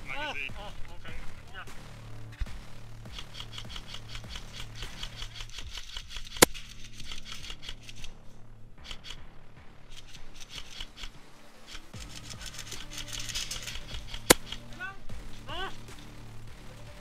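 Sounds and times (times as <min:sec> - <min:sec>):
loud sharp crack: 0:00.0 - 0:17.0
airsoft gunfire clatter: 0:00.3 - 0:17.0.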